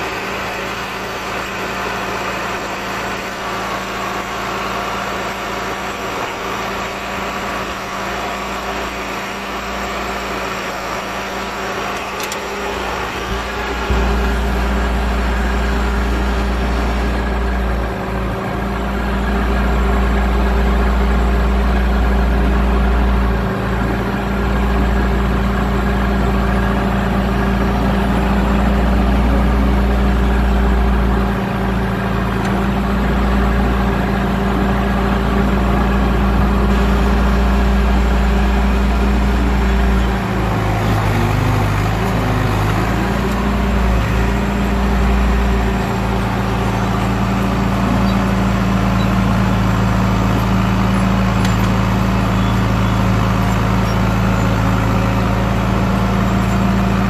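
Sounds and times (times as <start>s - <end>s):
diesel engine running: 0.0s - 57.0s
dozer blade pushing dirt: 0.0s - 57.0s.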